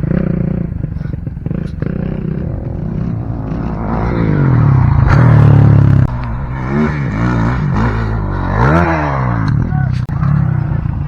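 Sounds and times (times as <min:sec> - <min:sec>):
dirt bike engine revving: 0:00.0 - 0:09.8.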